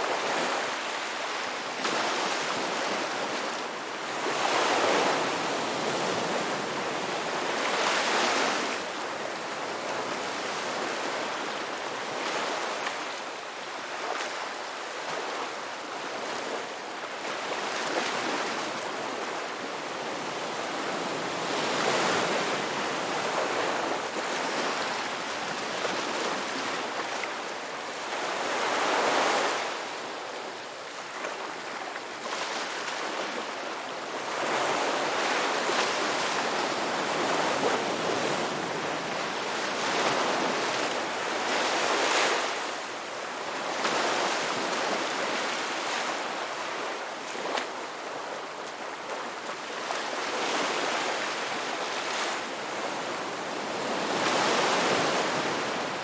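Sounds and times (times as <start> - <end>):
ocean waves breaking on a beach: 0.0 - 56.0.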